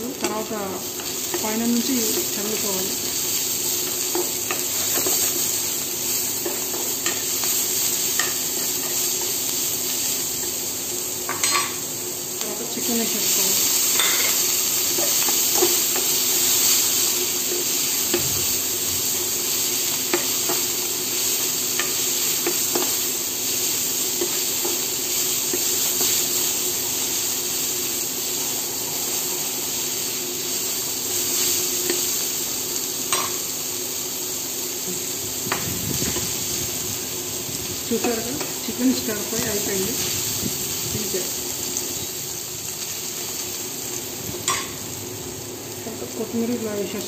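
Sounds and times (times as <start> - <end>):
food sizzling in wok: 0.0 - 47.0.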